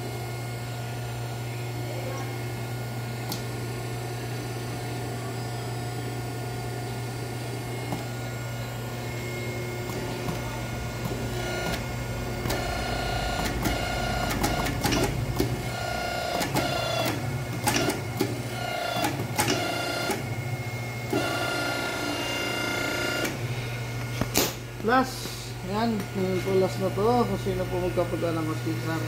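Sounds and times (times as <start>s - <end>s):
machine motor hum: 0.0s - 29.0s.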